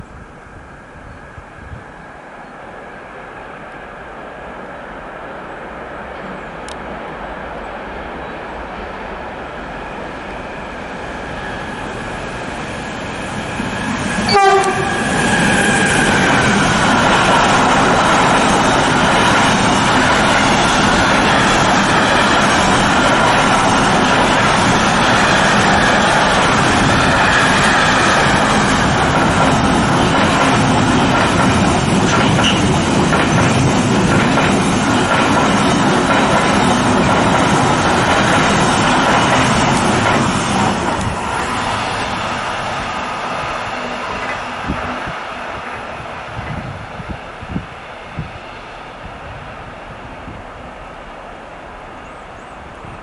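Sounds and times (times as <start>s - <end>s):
freight train rumbling on rails: 0.0s - 53.0s.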